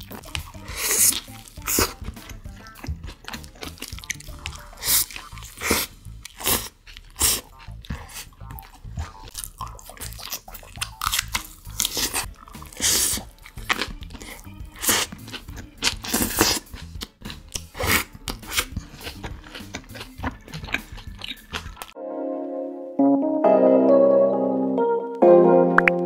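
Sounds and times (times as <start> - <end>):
crunching bites and chewing: 0.0 - 22.0.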